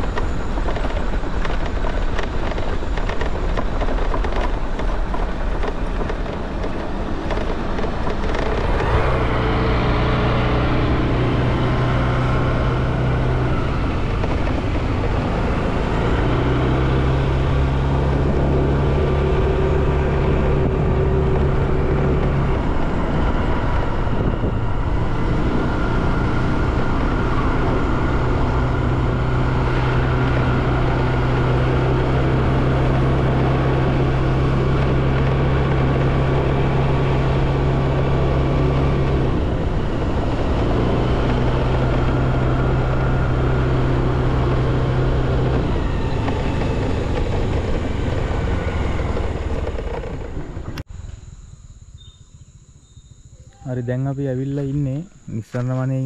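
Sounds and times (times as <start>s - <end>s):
road and wind noise: 0.0s - 56.0s
vehicle engine hum: 0.0s - 56.0s.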